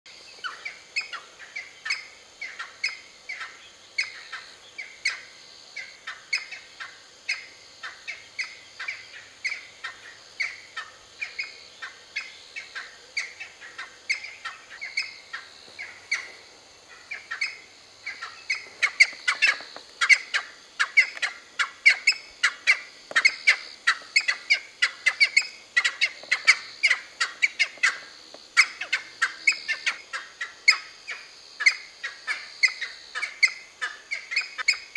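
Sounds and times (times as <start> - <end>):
pheasants chirping: 0.3 - 34.9.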